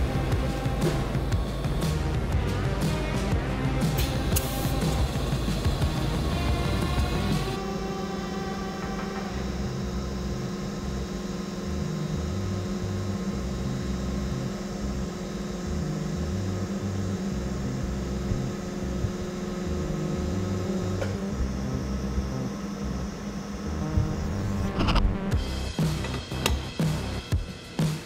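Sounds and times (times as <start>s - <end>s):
background music with pulsing bass: 0.0s - 28.0s
welding arc humming: 0.0s - 28.0s.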